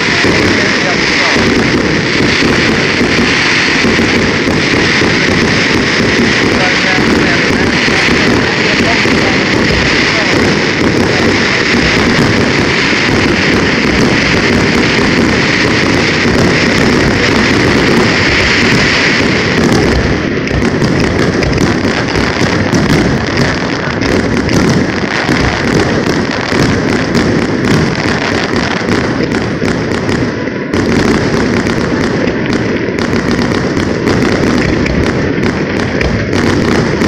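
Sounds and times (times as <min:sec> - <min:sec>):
fireworks bangs and crackling pops: 0:00.0 - 0:37.0.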